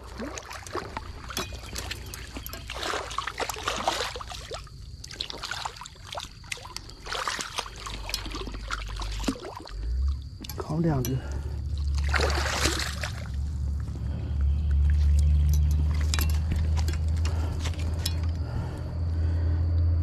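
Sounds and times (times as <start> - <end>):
fish flopping in mud and water: 0.0 - 18.8.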